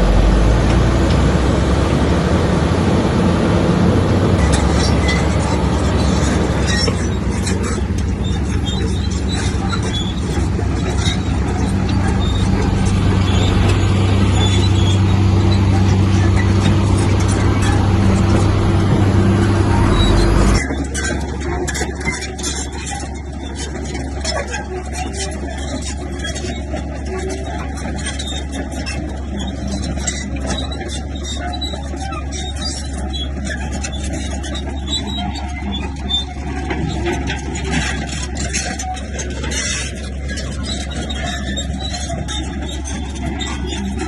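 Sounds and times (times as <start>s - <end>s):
heavy diesel engine running: 0.0s - 44.0s
rough machine hum: 0.0s - 44.0s
clanks and rattles: 3.7s - 44.0s.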